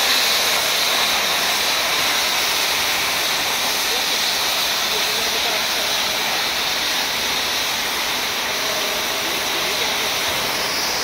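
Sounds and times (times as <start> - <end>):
cutting torches hissing: 0.0 - 11.0.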